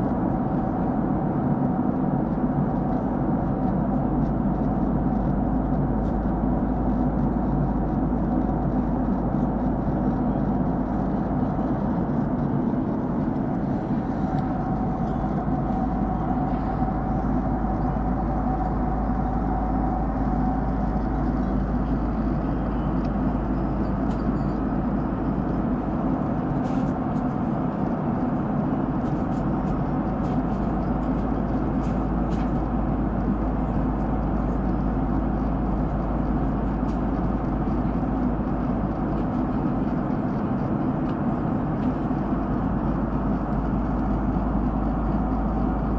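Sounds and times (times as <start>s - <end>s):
airplane cabin engine rush: 0.0s - 45.9s
faint steady hum: 0.0s - 45.9s.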